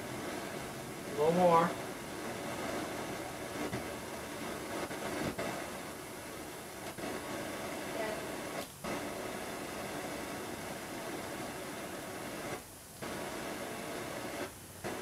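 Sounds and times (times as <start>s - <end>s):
torch hissing: 0.0s - 15.0s.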